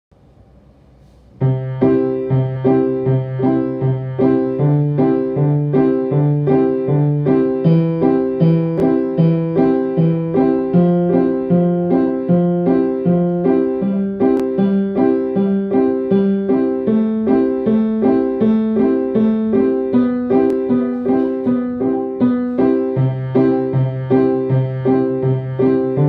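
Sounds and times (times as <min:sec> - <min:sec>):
piano melody alarm tone: 0:01.4 - 0:26.0.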